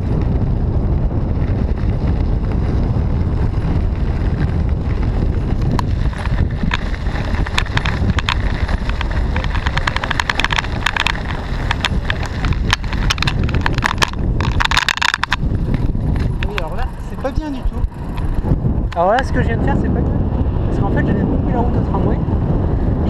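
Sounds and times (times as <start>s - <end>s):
sharp bicycle clicks: 0.0s - 19.4s
bicycle rattling over road: 0.0s - 23.0s
wind buffeting microphone: 0.0s - 23.0s.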